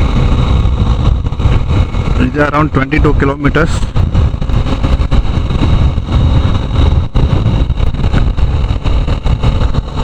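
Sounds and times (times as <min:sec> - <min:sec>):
motorcycle engine running: 0:00.0 - 0:10.0
wind noise on microphone: 0:00.0 - 0:10.0.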